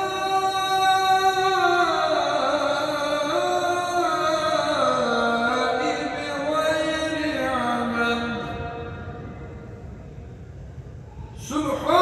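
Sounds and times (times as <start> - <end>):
man chanting: 0.0 - 9.6, 11.4 - 12.0.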